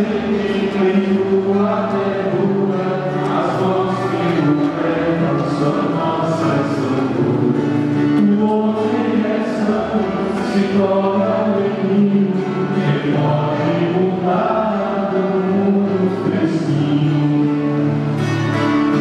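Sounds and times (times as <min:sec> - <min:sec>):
congregation singing a hymn: 0:00.0 - 0:19.0.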